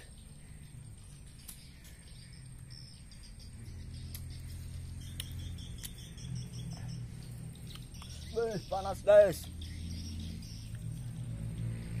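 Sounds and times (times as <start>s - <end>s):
small animal chirping: 1.0s - 11.6s.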